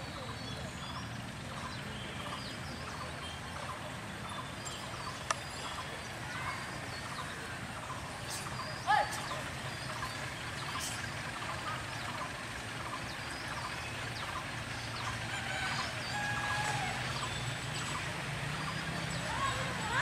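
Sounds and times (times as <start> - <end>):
birds chirping and calling: 0.0 - 20.0
distant diesel locomotive engine hum: 0.0 - 20.0.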